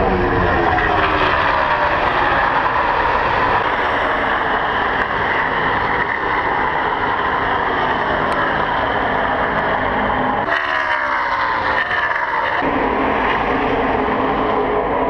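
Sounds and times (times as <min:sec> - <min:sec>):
race cars passing at full speed: 0:00.0 - 0:15.0.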